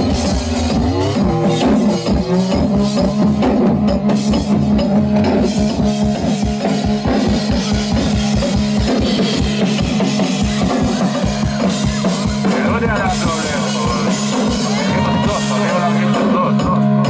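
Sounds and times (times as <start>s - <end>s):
drum kit playing rapidly: 0.0s - 17.0s
synthesizer drone: 0.0s - 17.0s.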